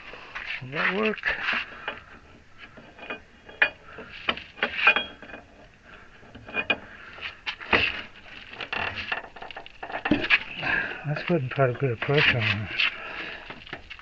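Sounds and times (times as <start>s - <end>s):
tire iron clinking on steel: 1.0s - 13.0s.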